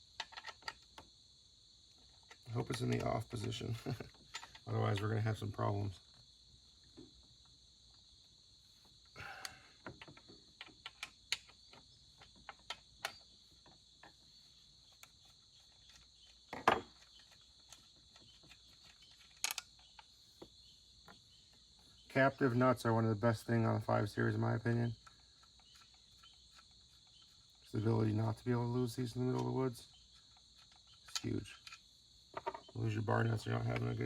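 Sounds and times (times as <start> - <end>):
light clicks and metallic knocks: 0.0 - 1.1, 1.9 - 6.2, 8.8 - 22.1, 24.2 - 34.0
crickets trilling: 0.0 - 34.0.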